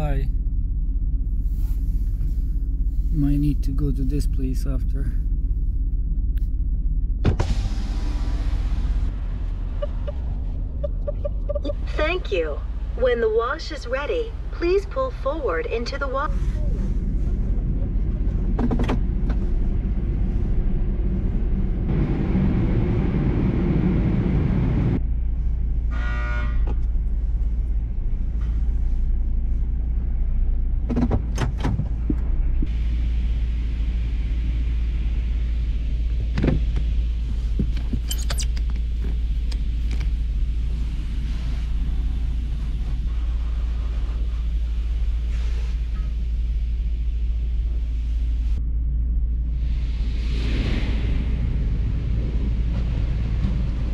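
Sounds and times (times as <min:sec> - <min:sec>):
truck engine rumbling: 0:00.0 - 0:53.9.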